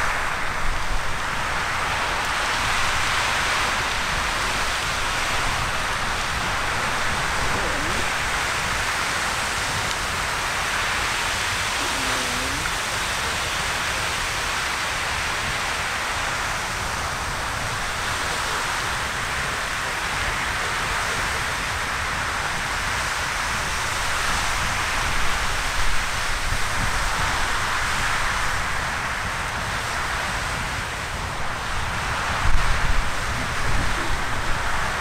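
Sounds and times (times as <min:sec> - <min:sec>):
spray raining onto river: 0:00.0 - 0:35.0.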